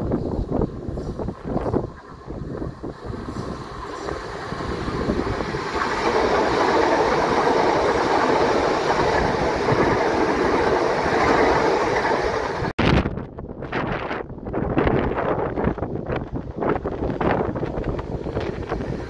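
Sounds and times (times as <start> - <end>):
train running past: 0.0 - 12.7, 15.4 - 19.0.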